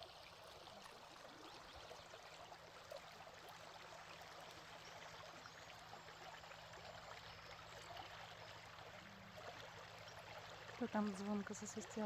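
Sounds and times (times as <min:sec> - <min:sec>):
small stream babbling: 0:00.0 - 0:12.0.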